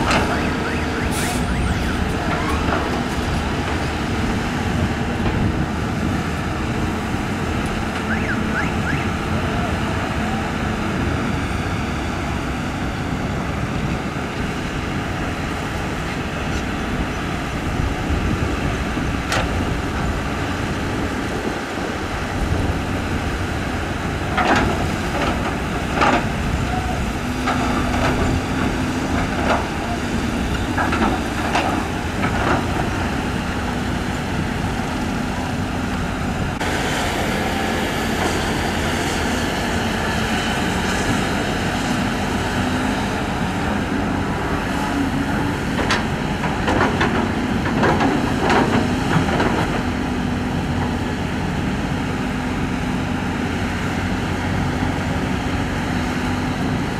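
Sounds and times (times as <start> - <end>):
excavator diesel engines running: 0.0 - 56.9.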